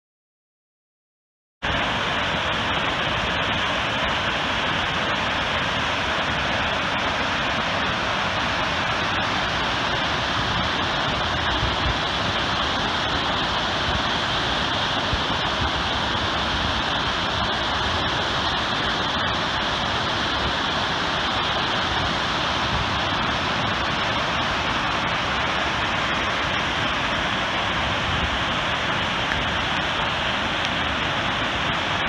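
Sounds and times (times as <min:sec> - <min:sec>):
waterfall roaring: 0:01.6 - 0:32.0.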